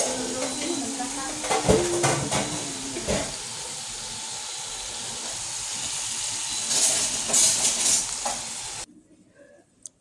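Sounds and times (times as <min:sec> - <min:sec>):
vegetables sizzling in oil: 0:00.0 - 0:08.9.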